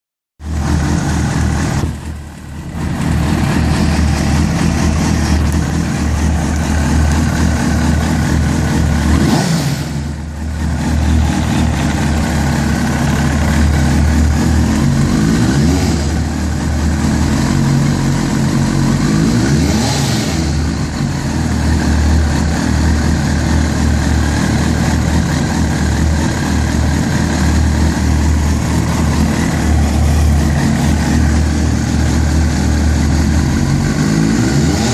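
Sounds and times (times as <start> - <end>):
motorcycle engine idling: 0.4 - 19.3, 20.4 - 34.4.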